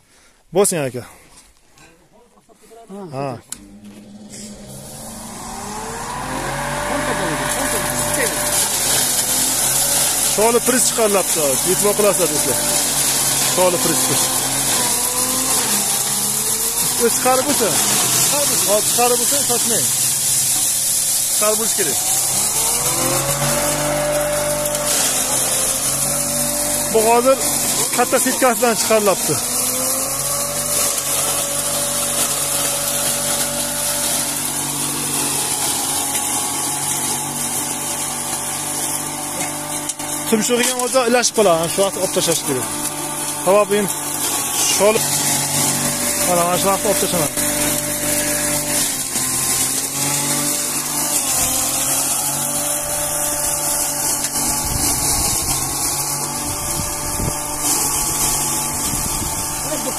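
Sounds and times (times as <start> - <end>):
straw crusher motor hum: 3.2 - 59.9.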